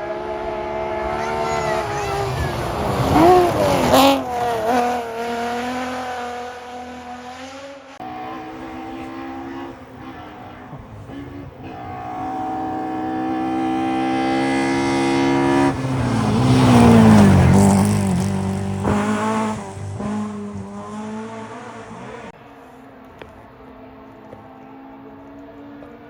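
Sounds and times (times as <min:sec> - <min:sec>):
rally car engine passing: 0:00.0 - 0:26.0.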